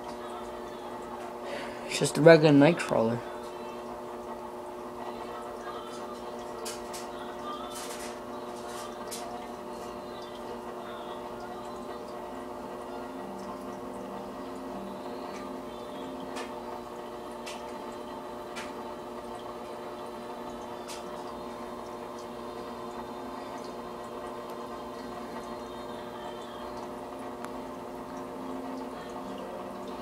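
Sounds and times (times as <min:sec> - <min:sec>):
aquarium filter hum: 0:00.0 - 0:30.0.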